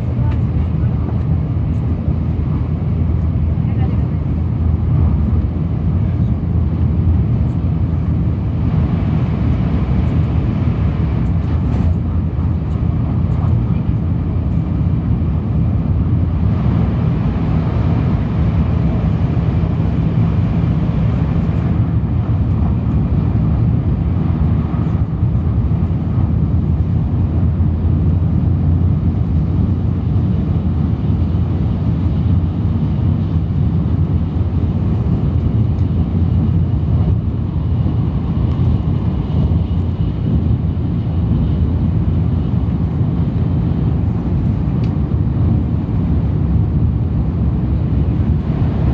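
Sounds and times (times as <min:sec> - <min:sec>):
train interior running noise: 0:00.0 - 0:48.9.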